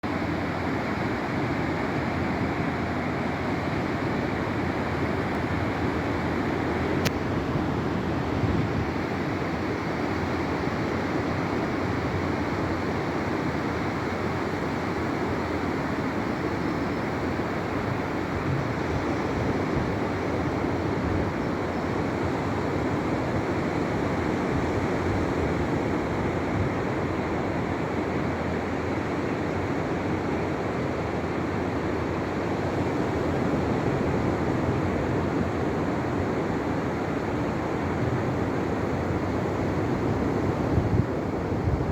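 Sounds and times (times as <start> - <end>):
waves breaking on shore: 0.0 - 41.9.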